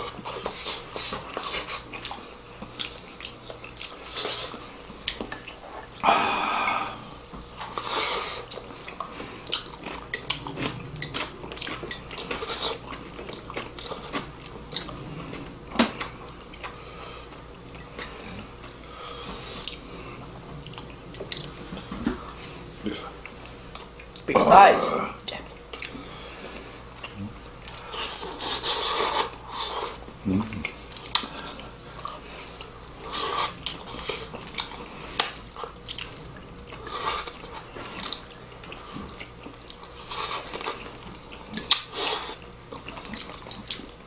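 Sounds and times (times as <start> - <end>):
chewing and wet mouth noises: 0.0 - 6.0, 6.7 - 24.3, 25.3 - 44.0.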